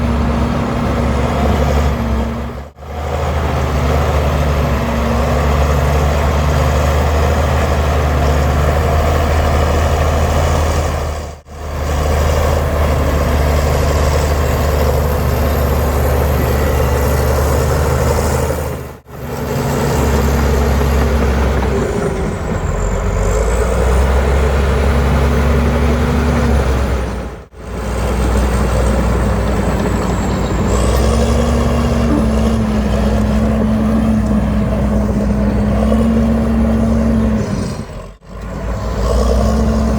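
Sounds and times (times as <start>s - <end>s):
heavy diesel engines working: 0.0s - 39.9s.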